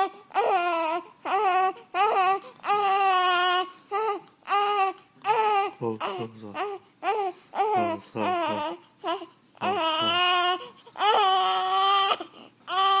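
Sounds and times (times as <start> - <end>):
baby crying: 0.0 - 13.0.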